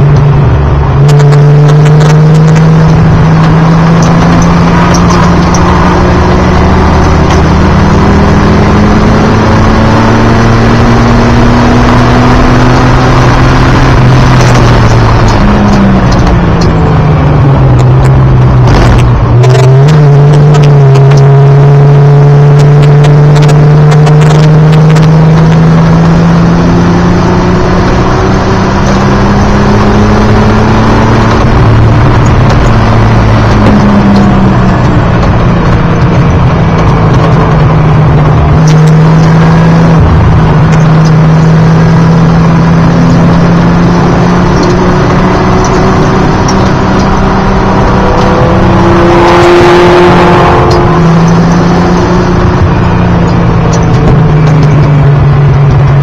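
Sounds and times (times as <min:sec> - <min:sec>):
race car engine from inside cabin: 0:00.0 - 0:56.0.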